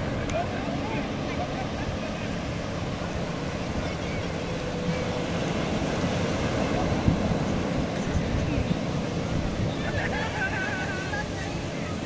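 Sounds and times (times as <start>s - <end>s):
surf at the shoreline: 0.0s - 12.0s
wind: 0.0s - 12.0s.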